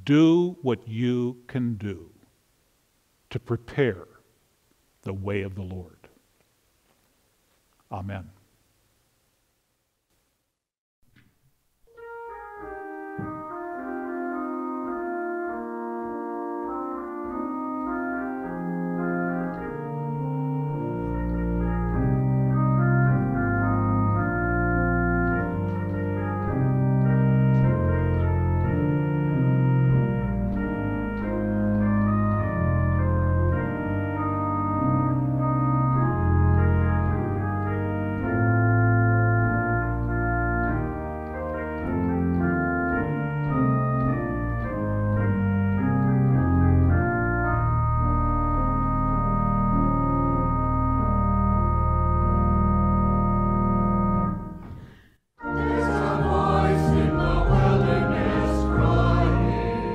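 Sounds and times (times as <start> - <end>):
organ chords with melody: 11.9 - 59.9.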